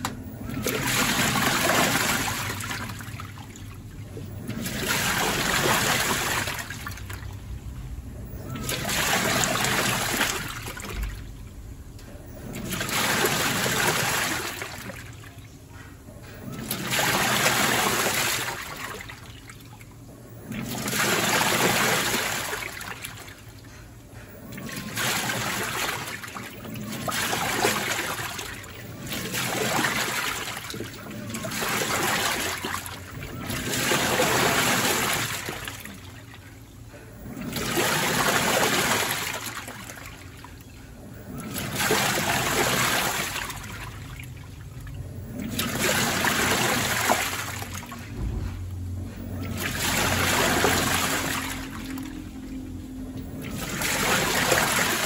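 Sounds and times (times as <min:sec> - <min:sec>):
washing machine churning water: 0:00.0 - 0:55.0.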